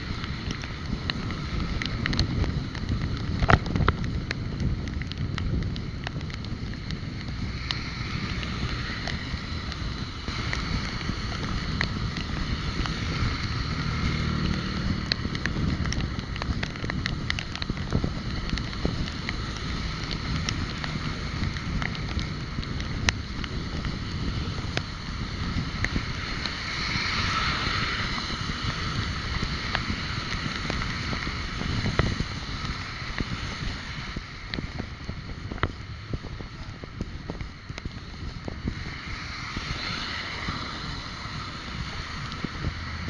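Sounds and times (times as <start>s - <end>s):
low road rumble: 0.0s - 43.0s
wind buffeting microphone: 0.0s - 43.0s.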